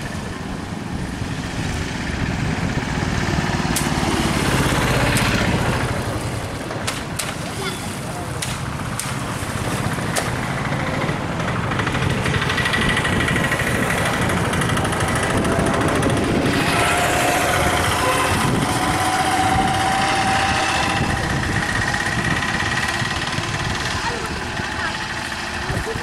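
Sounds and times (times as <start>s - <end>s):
engine running with whine: 0.0s - 26.0s.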